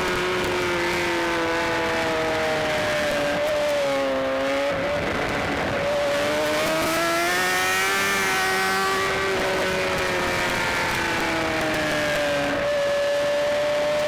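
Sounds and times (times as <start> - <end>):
motorbike engine at high revs: 0.0 - 14.0.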